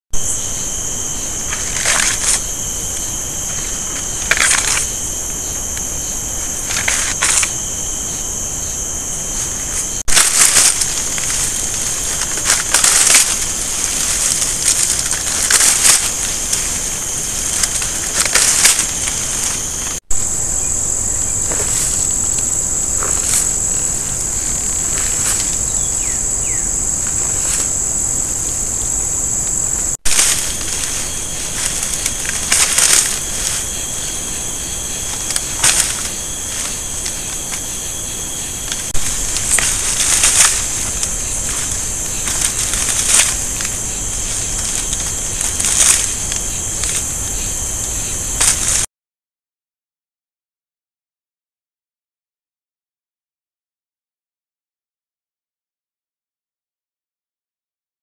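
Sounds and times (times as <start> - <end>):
insects trilling: 0.2 - 48.9
rustling through dry leaves: 0.2 - 48.9.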